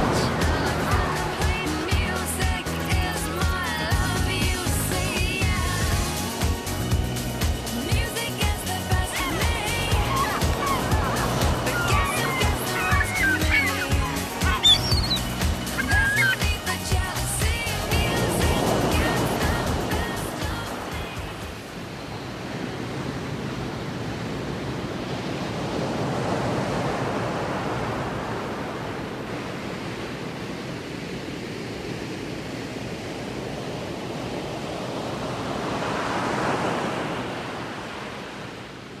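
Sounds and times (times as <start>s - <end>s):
sea surf washing on beach: 0.0s - 39.0s.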